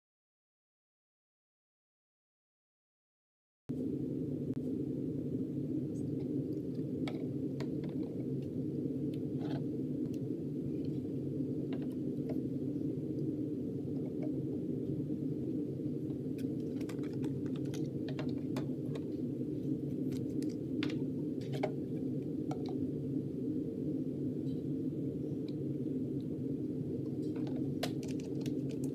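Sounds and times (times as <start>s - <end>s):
steady low hum: 3.7s - 28.9s.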